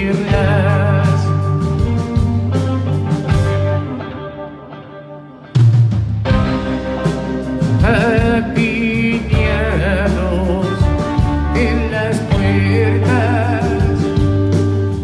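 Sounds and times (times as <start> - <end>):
rock band playing live: 0.0 - 15.0
wavering lead guitar melody: 0.0 - 15.0.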